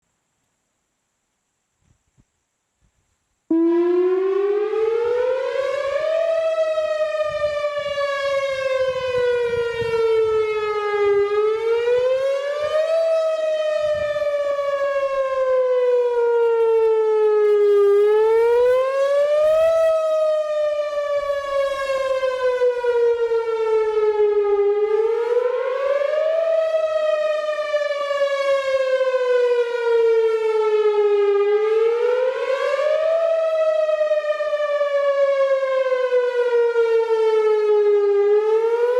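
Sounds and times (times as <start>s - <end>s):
warning siren wailing: 3.5s - 38.9s.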